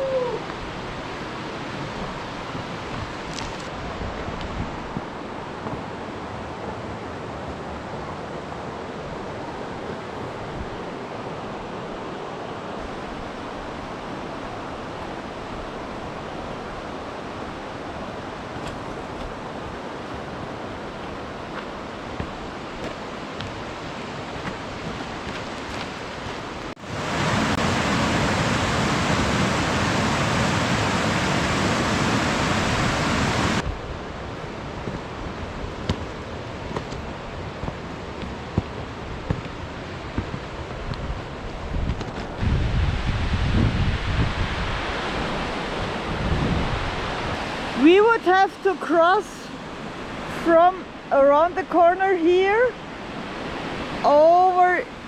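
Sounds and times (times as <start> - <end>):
outdoor noise: 0.0 - 55.0
river water rushing: 0.0 - 55.0.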